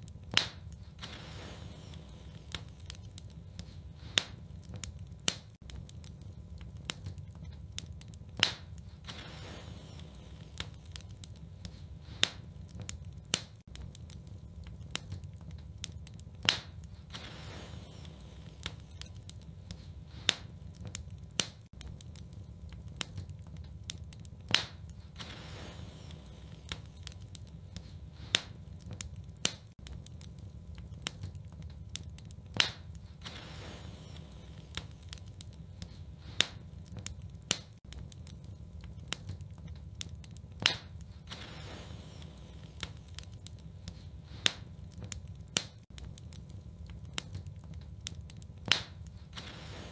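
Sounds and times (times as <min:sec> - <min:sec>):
low rumble of flames: 0:00.0 - 0:49.9
wood fire crackling and popping: 0:00.0 - 0:49.9.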